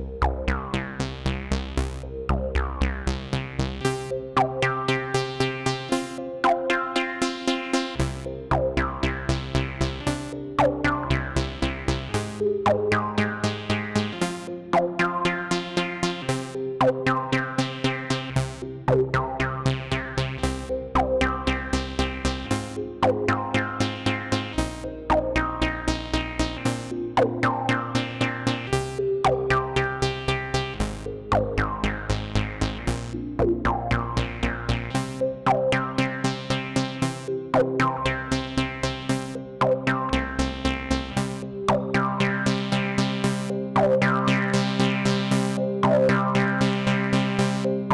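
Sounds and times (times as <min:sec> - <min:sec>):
synthesizer chords: 0:00.0 - 0:47.9.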